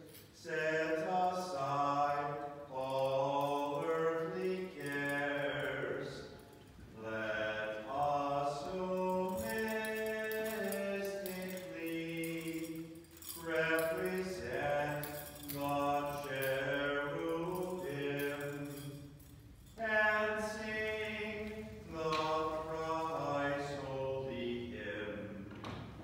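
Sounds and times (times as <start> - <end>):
liturgical chant with held notes: 0.0 - 26.0.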